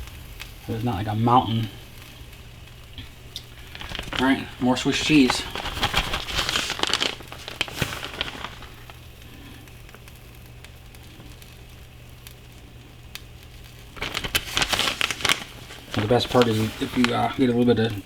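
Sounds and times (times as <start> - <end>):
sandwich sizzling in skillet: 0.0 - 18.0.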